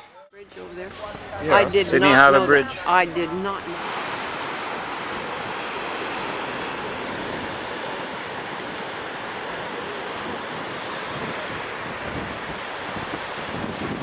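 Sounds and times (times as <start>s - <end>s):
wind: 0.0s - 14.0s
ocean surf: 0.4s - 14.0s.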